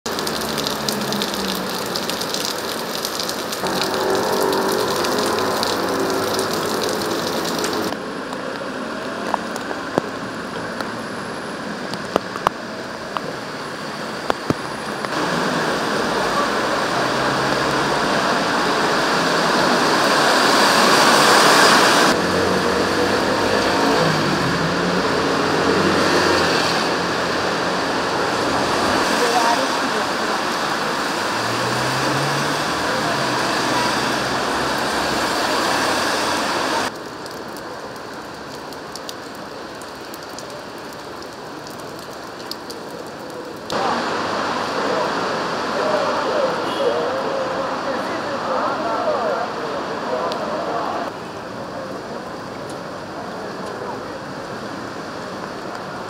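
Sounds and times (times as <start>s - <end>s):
cars passing on wet road: 0.0s - 56.0s
heavy rain on pavement: 0.0s - 56.0s.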